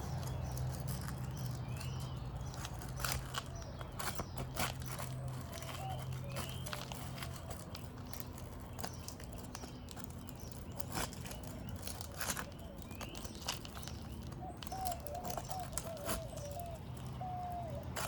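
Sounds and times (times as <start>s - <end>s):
bird calling: 0.0s - 18.0s
shingles scraping and clicking: 0.2s - 17.2s.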